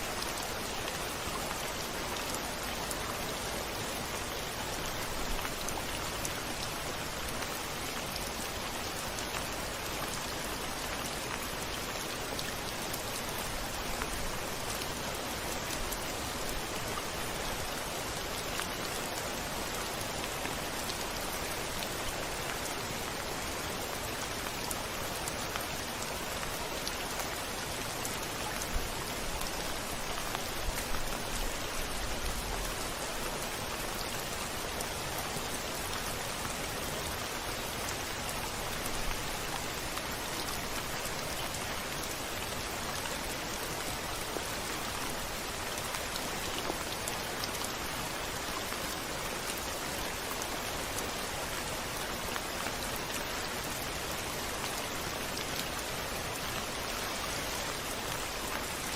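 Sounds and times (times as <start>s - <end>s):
rain falling on a window: 0.0s - 58.9s.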